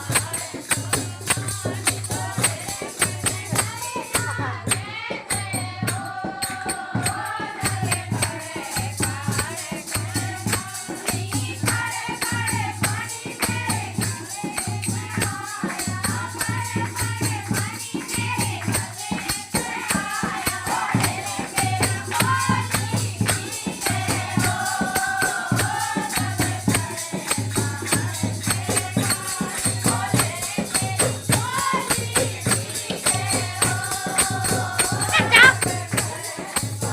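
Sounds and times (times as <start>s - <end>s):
jingling tambourine-like percussion: 0.0s - 36.9s
person singing devotional song: 0.0s - 36.9s.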